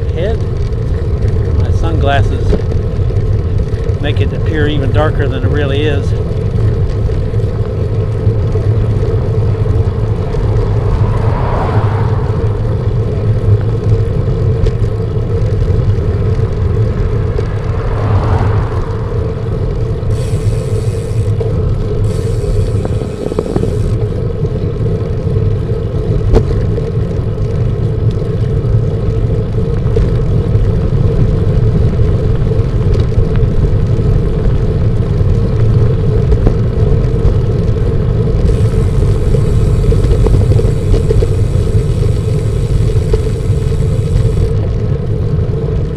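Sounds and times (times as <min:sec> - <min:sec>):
wind rumble on microphone: 0:00.0 - 0:45.9.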